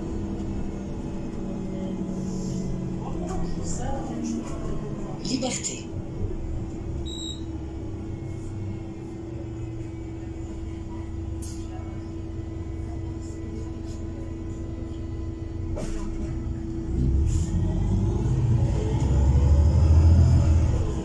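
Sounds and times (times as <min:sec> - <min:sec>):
bus engine rumble and whine: 0:00.0 - 0:21.0.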